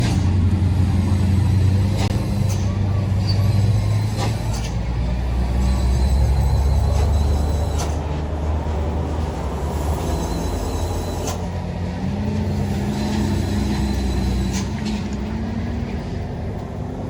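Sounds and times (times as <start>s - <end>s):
heavy vehicle engine labouring: 0.0s - 17.0s.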